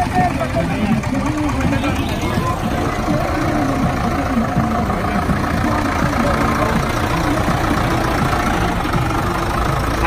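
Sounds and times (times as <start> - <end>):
tractor diesel engine at low revs: 0.0 - 10.0.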